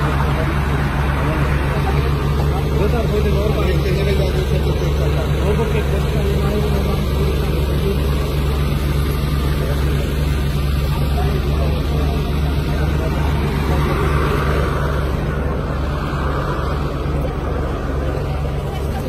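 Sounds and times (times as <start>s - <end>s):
faint crowd voices: 0.0s - 19.0s
vehicle engine idling: 0.0s - 19.0s.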